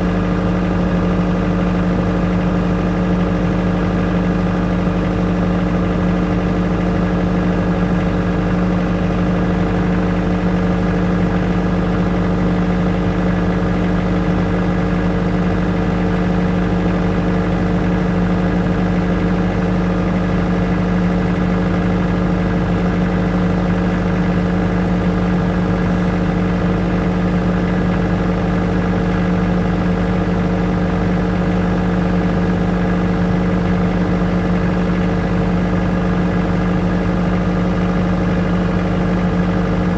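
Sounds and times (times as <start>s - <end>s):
generator engine droning: 0.0s - 39.9s.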